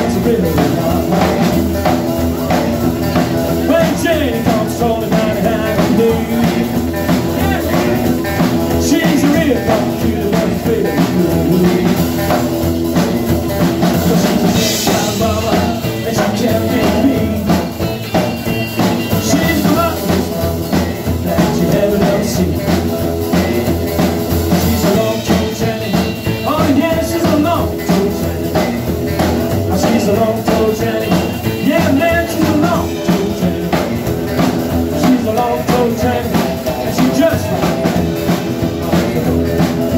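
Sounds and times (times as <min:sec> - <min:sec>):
drum kit: 0:00.0 - 0:39.9
electric guitar: 0:00.0 - 0:39.9
man singing lead: 0:00.0 - 0:39.9
strummed acoustic guitar: 0:00.0 - 0:39.9
upright double bass: 0:00.0 - 0:39.9.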